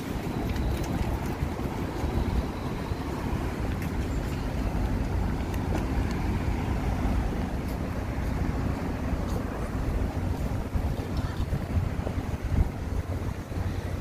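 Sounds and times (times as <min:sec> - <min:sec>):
traffic noise: 0:00.0 - 0:14.0
wind rumble on microphone: 0:00.0 - 0:14.0.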